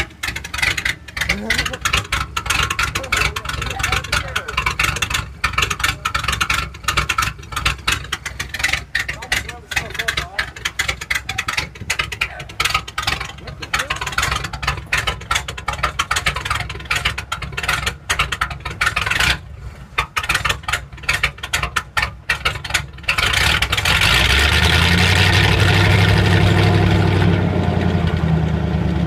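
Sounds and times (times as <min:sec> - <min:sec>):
pickup truck exhaust: 0:00.0 - 0:29.0.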